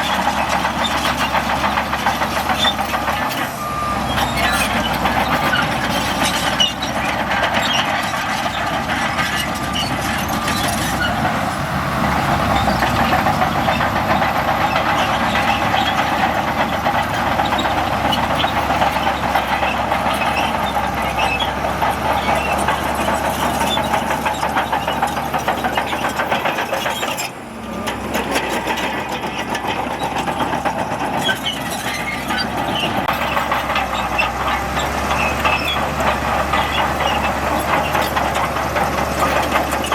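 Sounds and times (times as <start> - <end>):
diesel machinery engine drone: 0.0 - 39.9
machinery clanks and rattles: 0.0 - 39.9.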